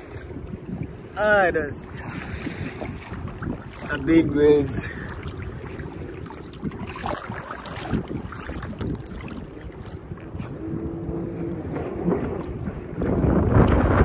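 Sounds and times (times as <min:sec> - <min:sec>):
sea water sloshing and splashing: 0:00.0 - 0:14.0
wind on microphone: 0:00.0 - 0:14.0.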